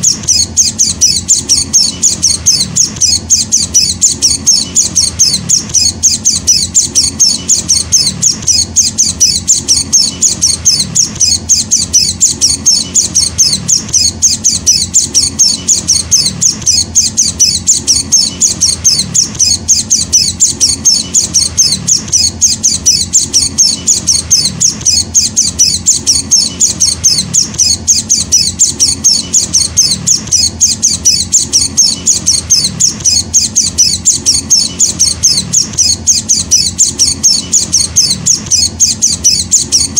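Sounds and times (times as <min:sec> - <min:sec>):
chicks chirping: 0:00.0 - 0:39.9.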